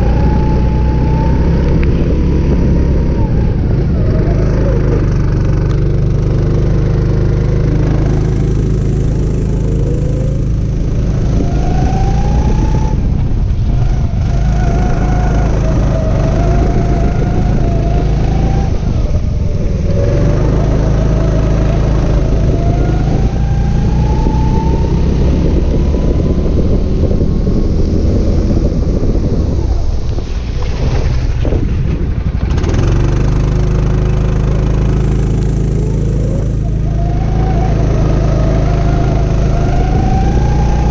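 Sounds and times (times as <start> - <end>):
kart engine revving: 0.0 - 29.6, 31.4 - 40.9.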